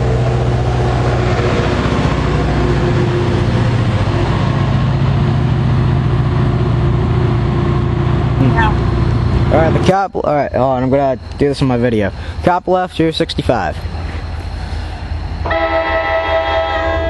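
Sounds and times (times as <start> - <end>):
diesel locomotive engine drone: 0.0 - 17.0
train wheels rumbling on rails: 0.0 - 17.0.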